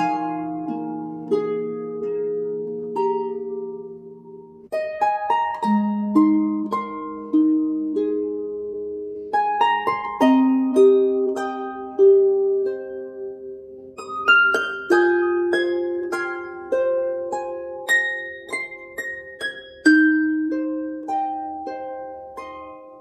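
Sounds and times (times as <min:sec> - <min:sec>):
slow harp-like plucked melody: 0:00.0 - 0:23.0.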